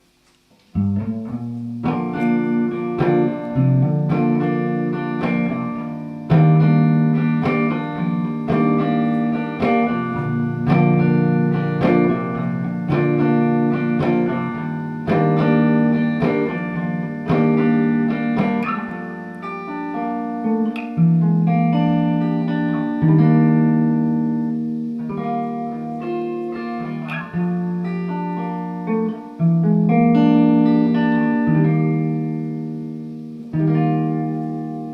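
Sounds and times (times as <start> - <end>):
guitar picking chords: 0.0 - 34.9.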